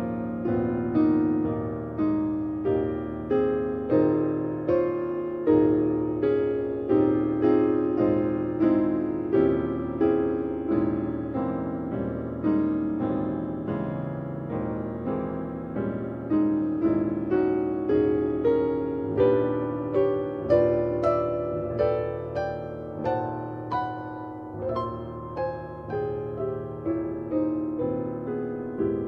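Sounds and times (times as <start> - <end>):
jazz piano ballad: 0.0 - 29.0.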